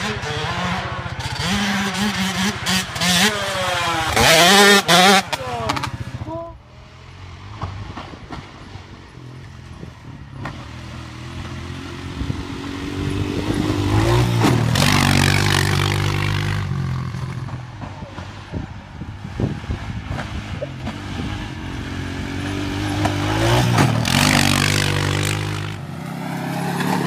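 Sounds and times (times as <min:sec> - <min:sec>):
atv engine riding past: 0:00.0 - 0:27.0.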